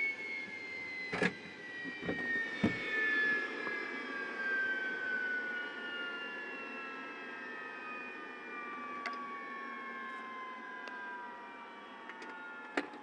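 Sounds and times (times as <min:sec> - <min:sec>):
turbine engine spooling down: 0:00.0 - 0:13.0.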